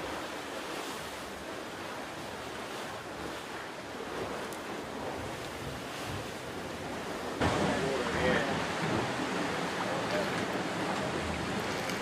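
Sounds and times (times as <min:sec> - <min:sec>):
ocean waves rushing: 0:00.0 - 0:12.0
wind: 0:00.0 - 0:12.0.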